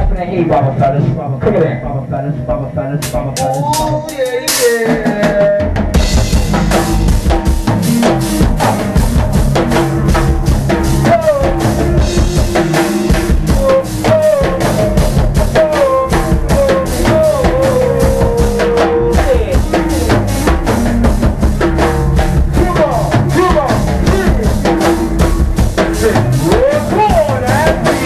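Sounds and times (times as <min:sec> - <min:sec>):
bass: 0:00.0 - 0:28.0
drum and percussion groove: 0:00.0 - 0:28.0.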